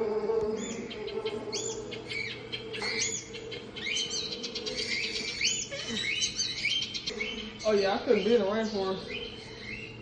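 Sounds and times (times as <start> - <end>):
birds chirping: 0.0 - 10.0
steady low hum: 0.0 - 10.0.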